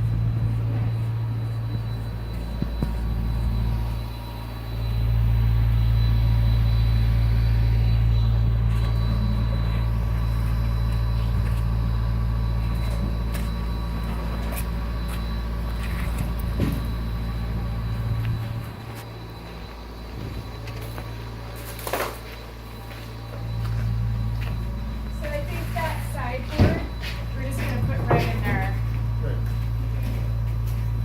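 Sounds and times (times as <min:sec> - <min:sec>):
machine engine droning: 0:00.0 - 0:31.0.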